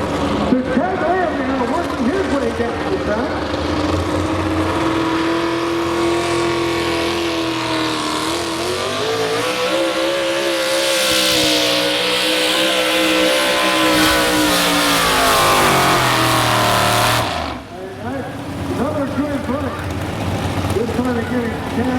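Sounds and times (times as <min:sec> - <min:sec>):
truck engine running hard: 0:00.0 - 0:21.9.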